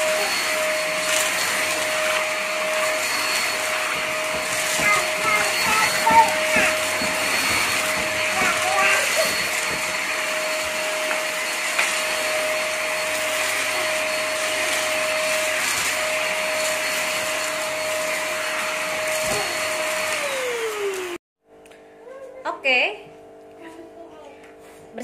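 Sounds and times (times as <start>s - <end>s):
vacuum cleaner motor whine: 0.0s - 21.2s
vacuum nozzle on tiled floor: 0.0s - 21.8s.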